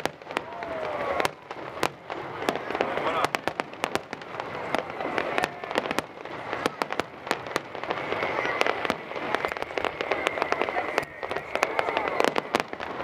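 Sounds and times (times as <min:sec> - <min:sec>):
fireworks bangs and crackles: 0:00.0 - 0:13.0
murmur of crowd: 0:00.0 - 0:13.0.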